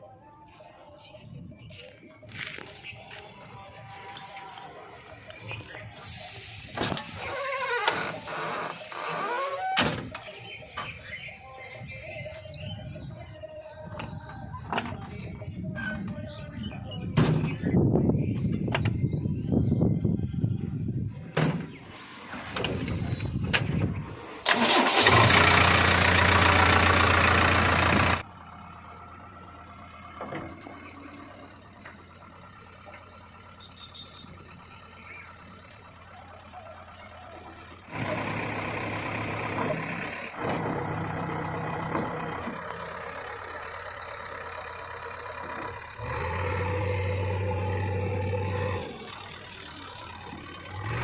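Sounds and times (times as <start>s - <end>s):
diesel engines running: 0.0s - 51.0s.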